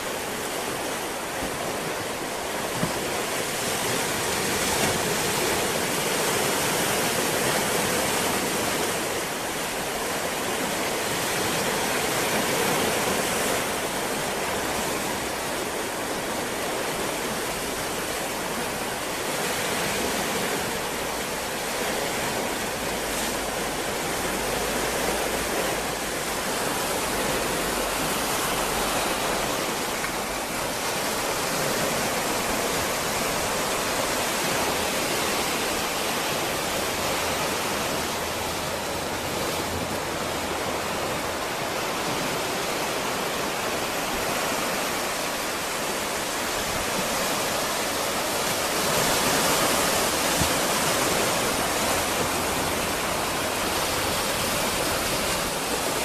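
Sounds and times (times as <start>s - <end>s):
ocean waves surf hiss: 0.0s - 56.0s.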